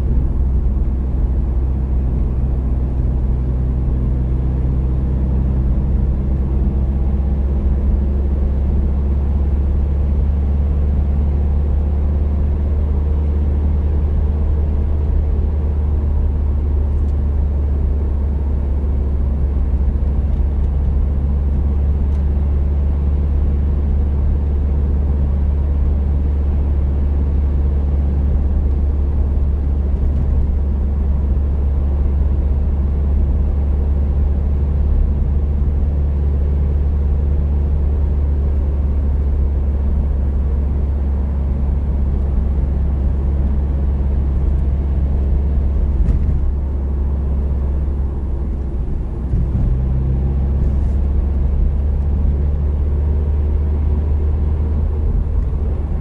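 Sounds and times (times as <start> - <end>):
car engine drone inside cabin: 0.0 - 56.0.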